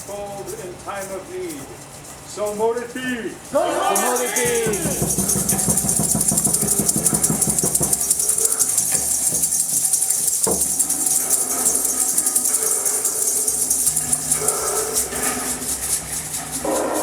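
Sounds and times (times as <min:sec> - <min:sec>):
hand percussion rattling: 0:00.0 - 0:17.0.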